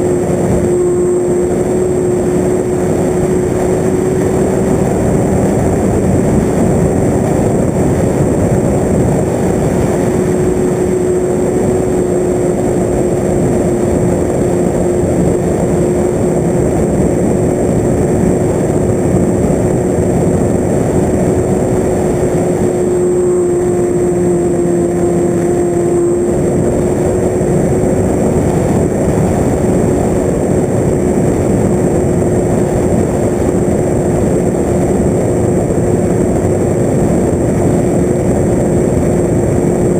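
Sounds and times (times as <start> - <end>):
motor and propeller running: 0.0 - 39.9
wind noise: 0.0 - 39.9.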